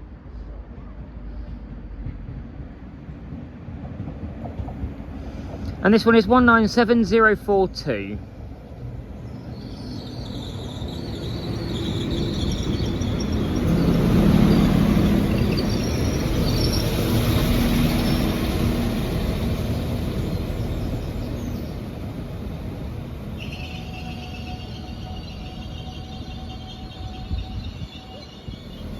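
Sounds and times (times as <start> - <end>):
diesel train running: 0.0 - 28.9.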